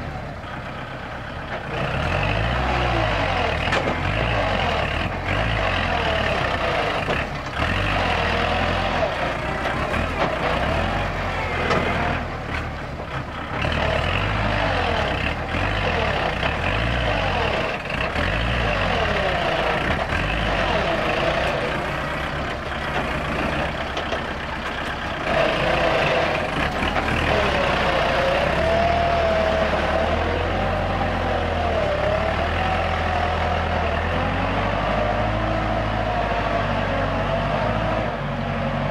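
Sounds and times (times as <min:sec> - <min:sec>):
engine whine: 0:00.0 - 0:38.9
tractor diesel engine under load: 0:00.0 - 0:38.9.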